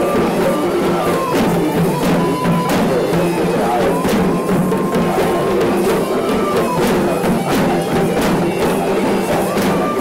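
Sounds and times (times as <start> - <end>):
drums beating a steady pattern: 0.0 - 10.0
nasal reed pipe melody: 0.0 - 10.0.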